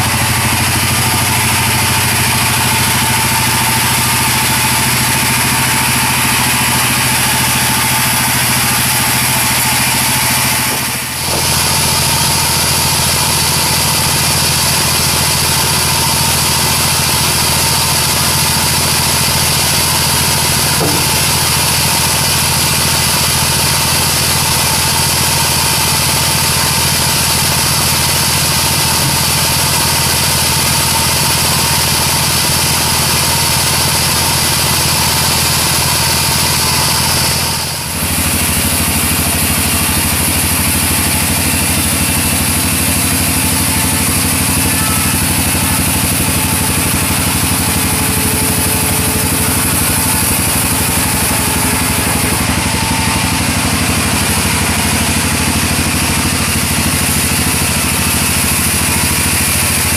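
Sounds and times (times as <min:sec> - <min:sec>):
band saw machine drone: 0:00.0 - 0:59.9
high saw whine: 0:00.0 - 0:59.9.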